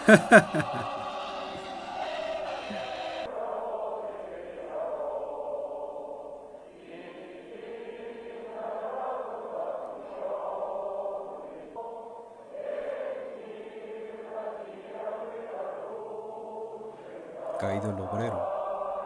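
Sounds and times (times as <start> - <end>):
voices chanting: 0.0 - 19.0.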